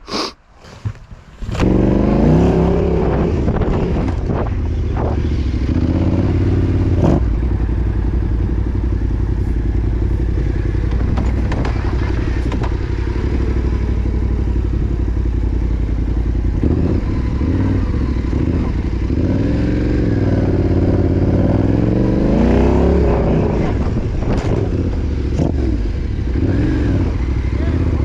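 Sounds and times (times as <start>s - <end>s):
motorcycle engine revving: 1.5s - 28.0s.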